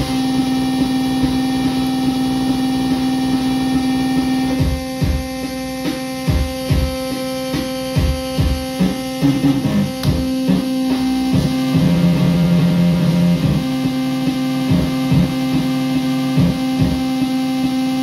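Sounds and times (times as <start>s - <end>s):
held low keyboard note: 0.0s - 17.3s
buzzing drone: 0.0s - 18.0s
rhythmic electronic pulse: 0.0s - 18.0s.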